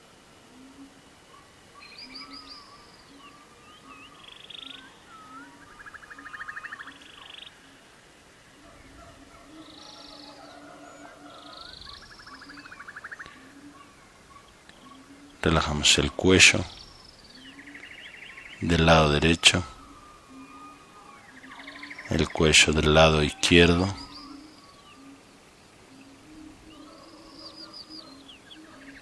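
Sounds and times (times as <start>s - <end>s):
birds chirping and trilling: 0.0s - 29.0s.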